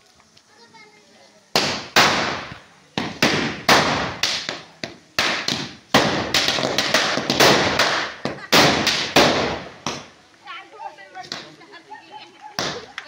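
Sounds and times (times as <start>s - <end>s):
firecrackers banging: 1.5s - 13.0s.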